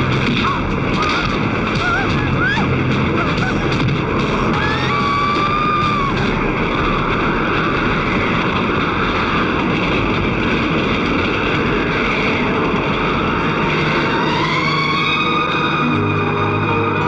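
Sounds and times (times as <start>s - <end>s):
fast train rushing: 0.0s - 17.0s.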